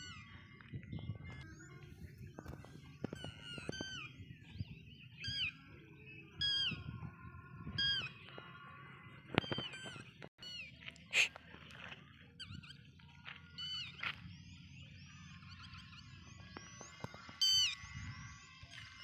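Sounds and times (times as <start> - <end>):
wind rumbling on microphone: 0.0 - 10.3, 14.0 - 19.0.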